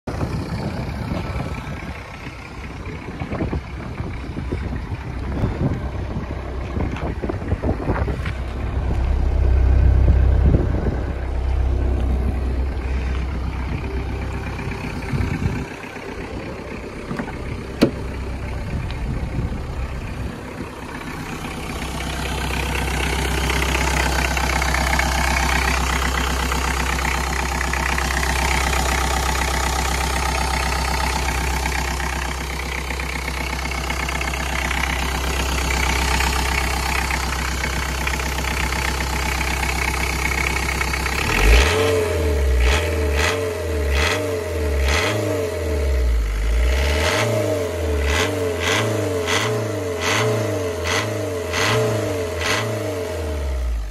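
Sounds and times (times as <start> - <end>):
diesel engine clatter: 0.0 - 53.9
diesel exhaust rumble: 0.0 - 53.9.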